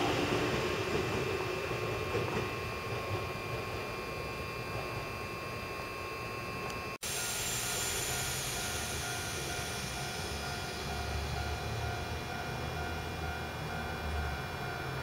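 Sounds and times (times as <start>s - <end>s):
train rolling rumble: 0.0s - 5.5s, 6.6s - 15.0s
electric train whine: 0.0s - 15.0s.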